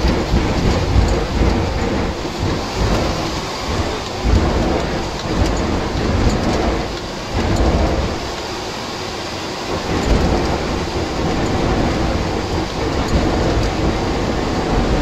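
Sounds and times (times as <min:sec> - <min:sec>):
low thumps over waves: 0:00.0 - 0:15.0
water rushing against hull: 0:00.0 - 0:15.0.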